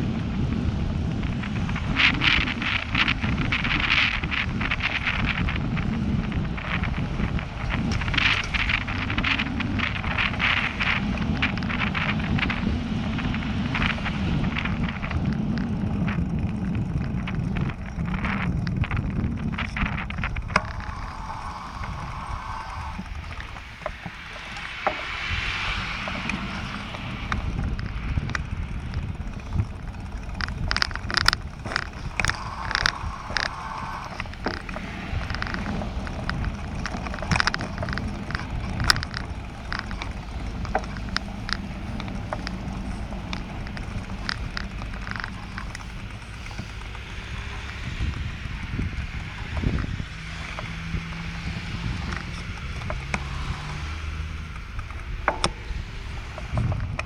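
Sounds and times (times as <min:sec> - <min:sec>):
bicycle tyres rumbling: 0:00.0 - 0:57.0
bike rattling over bumps: 0:00.0 - 0:57.0
wind on microphone: 0:00.0 - 0:57.0.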